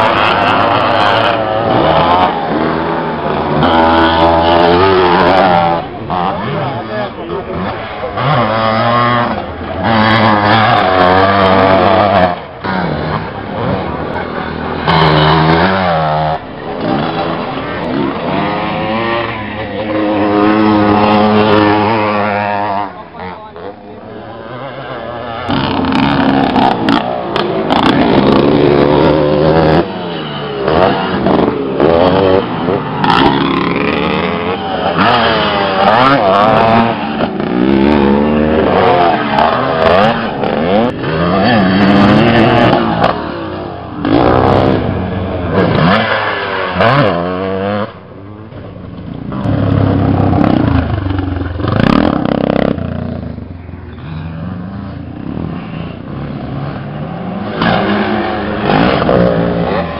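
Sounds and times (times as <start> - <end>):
motocross motorcycles revving: 0.0 - 59.9.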